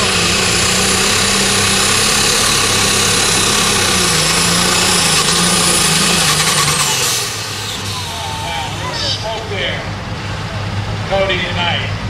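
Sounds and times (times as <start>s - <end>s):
tractor engine running hard: 0.0s - 12.0s.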